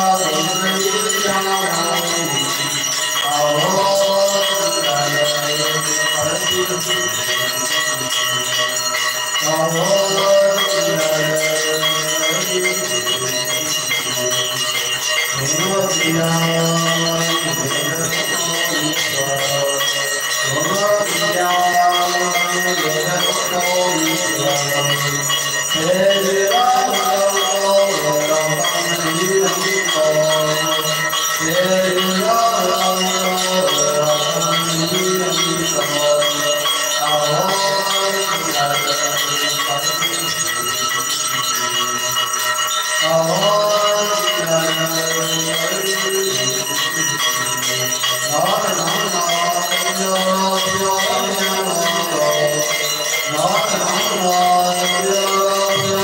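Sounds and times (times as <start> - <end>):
devotional music: 0.0 - 56.0
temple bells ringing: 0.0 - 56.0.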